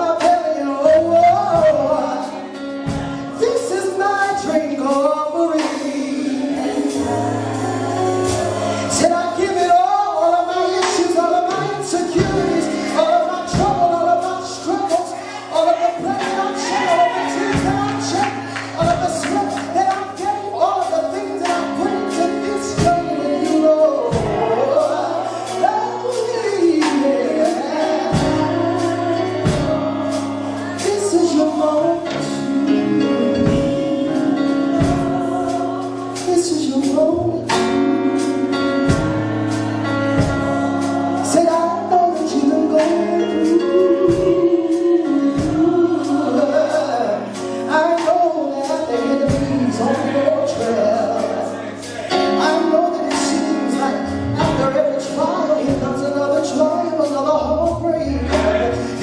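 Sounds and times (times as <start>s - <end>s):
gospel singing voices: 0.0s - 59.0s
steady drum beat: 0.2s - 9.8s, 11.8s - 31.7s, 33.4s - 53.5s.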